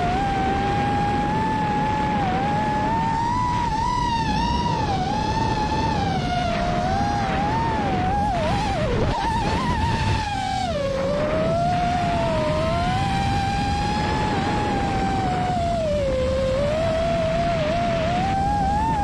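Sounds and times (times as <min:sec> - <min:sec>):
quadcopter motors whining: 0:00.0 - 0:19.0
rush of wind: 0:00.0 - 0:19.0.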